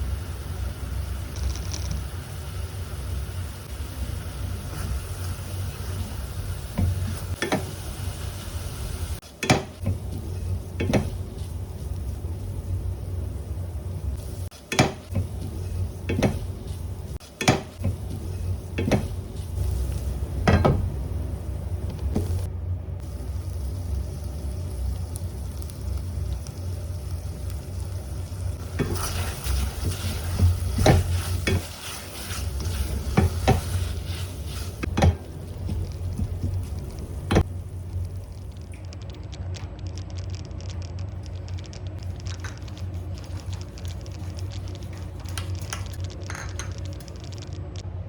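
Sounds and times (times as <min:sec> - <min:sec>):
frying sizzle: 0:00.0 - 0:47.8.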